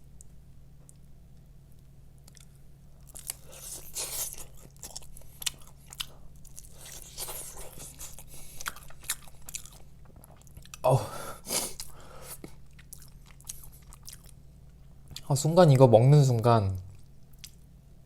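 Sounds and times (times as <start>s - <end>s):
crunchy chewing of fried chicken: 1.8s - 15.3s, 16.8s - 17.8s.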